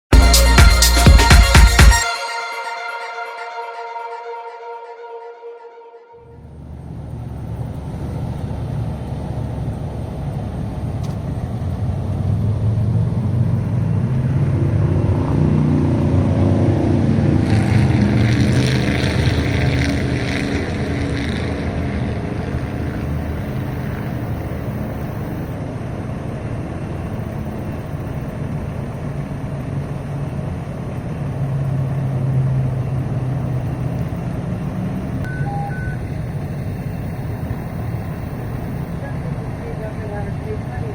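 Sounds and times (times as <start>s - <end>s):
diesel engine running: 6.4s - 40.9s.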